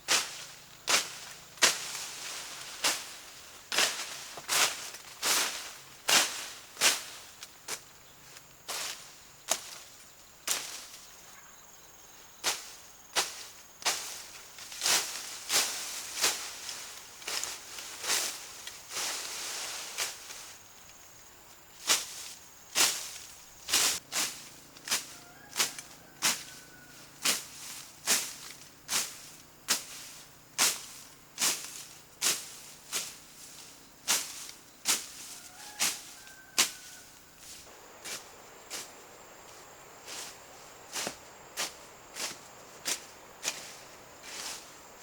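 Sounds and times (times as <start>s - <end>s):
crunching footsteps: 0.0s - 11.2s, 12.4s - 21.0s, 21.6s - 45.0s.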